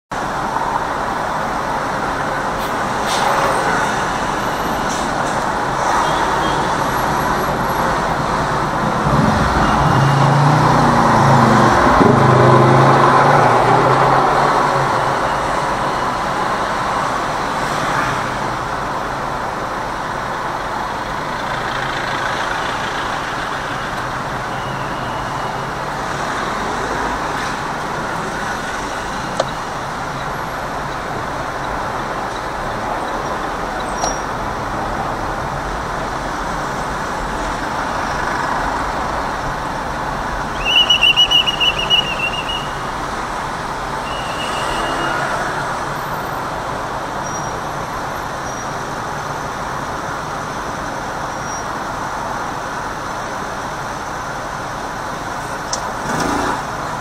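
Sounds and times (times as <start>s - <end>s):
city traffic road noise: 0.1s - 57.0s.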